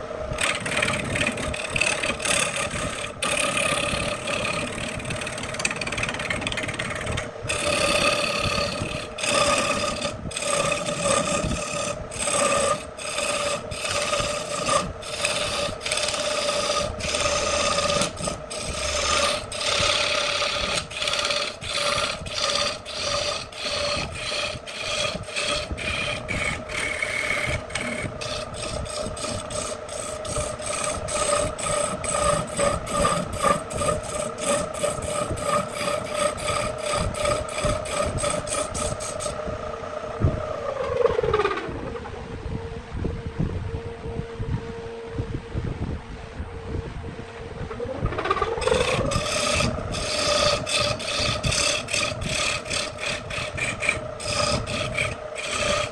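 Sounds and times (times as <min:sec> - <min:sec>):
turning tool scraping wood: 0:00.0 - 0:39.5, 0:48.1 - 0:55.9
lathe motor tone: 0:00.0 - 0:41.5, 0:47.6 - 0:55.9.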